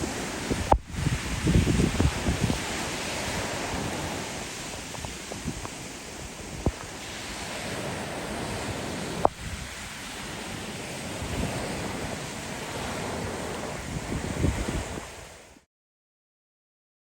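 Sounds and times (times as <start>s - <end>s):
strong wind: 0.0s - 15.6s
surf: 0.0s - 15.6s.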